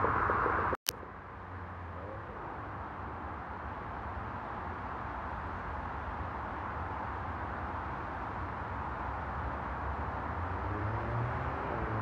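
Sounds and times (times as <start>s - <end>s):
distant traffic: 0.0s - 12.0s.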